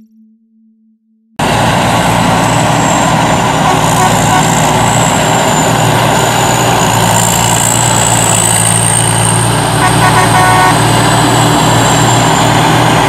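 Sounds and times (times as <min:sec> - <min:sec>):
combine harvester engine drone: 0:01.4 - 0:13.0.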